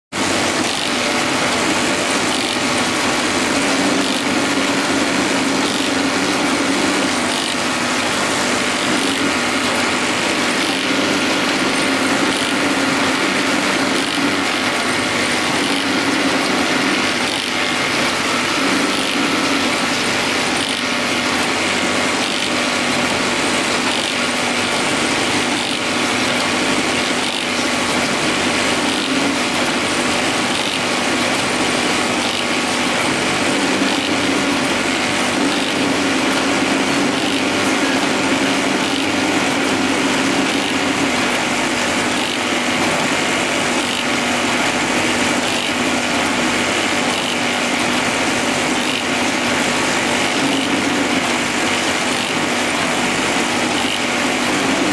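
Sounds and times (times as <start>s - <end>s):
sewing machine clattering: 0.1s - 54.9s.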